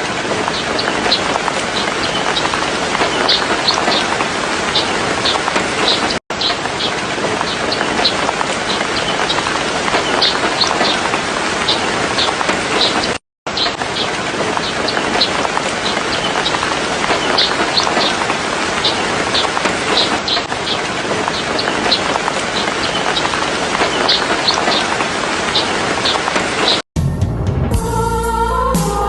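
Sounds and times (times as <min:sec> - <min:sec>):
rain falling: 0:00.0 - 0:26.8
bird chirps: 0:00.5 - 0:26.8.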